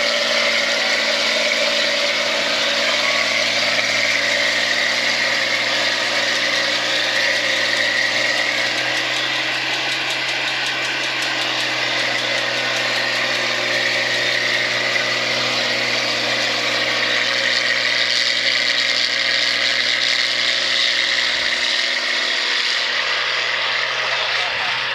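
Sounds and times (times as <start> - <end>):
combine harvester running: 0.0 - 24.9.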